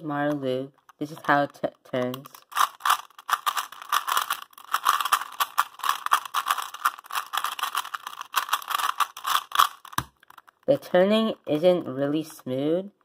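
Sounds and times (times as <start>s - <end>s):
puzzle cube clicking and rattling: 0.1s - 12.4s.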